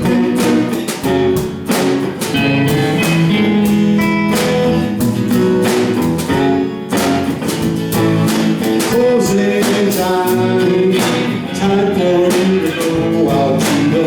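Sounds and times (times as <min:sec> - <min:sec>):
live band guitar instrumental: 0:00.0 - 0:14.0
steady drum beat: 0:00.0 - 0:14.0.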